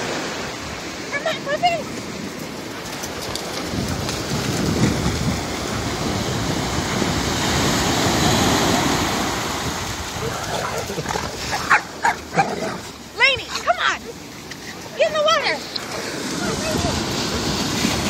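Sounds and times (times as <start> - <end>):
ocean surf breaking on beach: 0.0 - 18.0.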